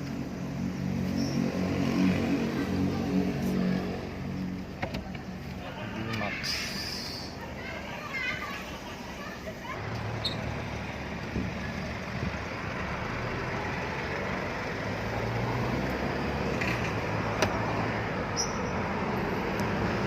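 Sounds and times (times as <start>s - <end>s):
diesel engine low hum: 0.0s - 20.0s
road and tyre noise: 0.0s - 20.0s.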